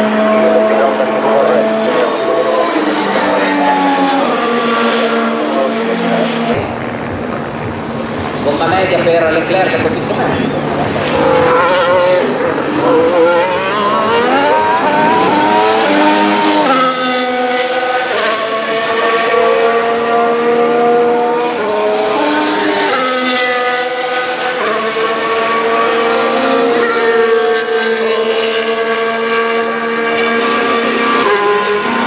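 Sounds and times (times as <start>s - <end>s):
racing car engines at high revs: 0.0s - 32.0s.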